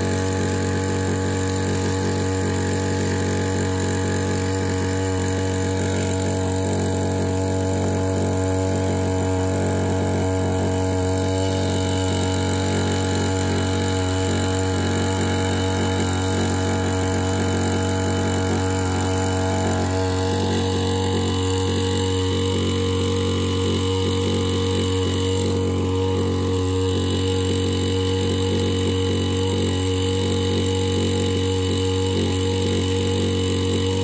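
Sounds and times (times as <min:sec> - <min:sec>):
engine-driven pump running: 0:00.0 - 0:34.0.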